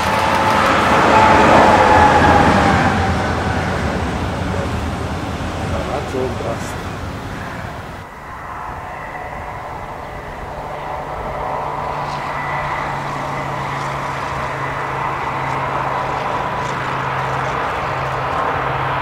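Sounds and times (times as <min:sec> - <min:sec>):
diesel locomotive engine hum: 0:00.0 - 0:19.0
high whine: 0:00.0 - 0:19.0.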